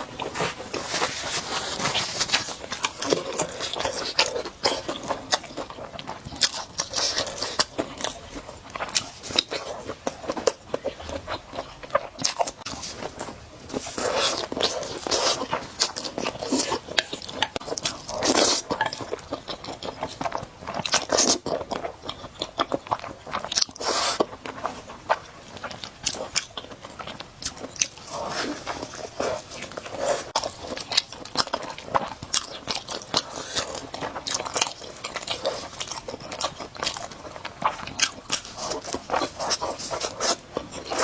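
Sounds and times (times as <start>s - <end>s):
wet chewing and mouth clicks: 1.7s - 41.0s.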